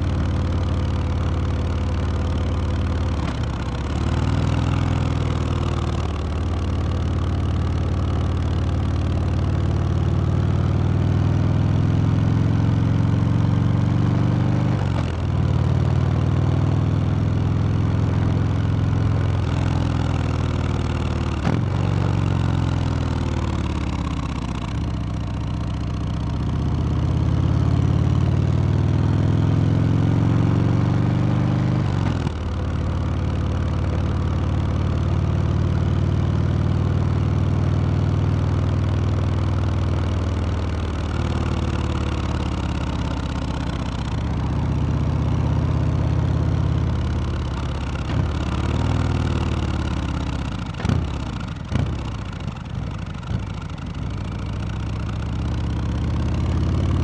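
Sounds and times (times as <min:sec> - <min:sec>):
motorcycle engine and exhaust: 0:00.0 - 0:57.0.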